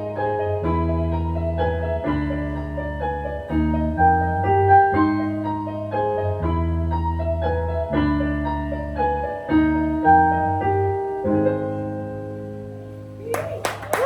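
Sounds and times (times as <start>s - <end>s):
low bass notes: 0.0s - 13.3s
piano slow held chords: 0.0s - 14.0s.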